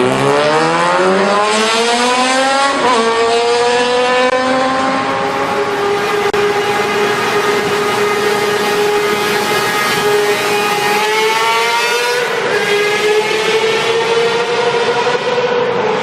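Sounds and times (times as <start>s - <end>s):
motorcycle engine at high revs: 0.0s - 5.4s, 6.1s - 15.4s.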